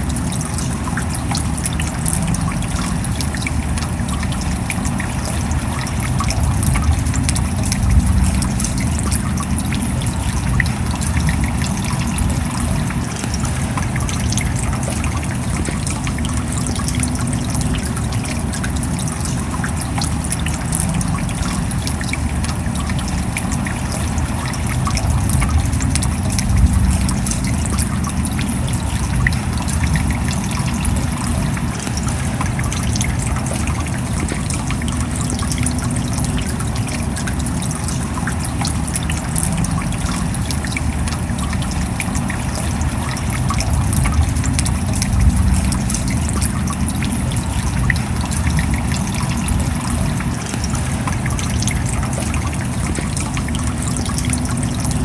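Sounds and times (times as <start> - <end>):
rain falling: 0.0 - 55.0
running water trickling: 0.0 - 55.0.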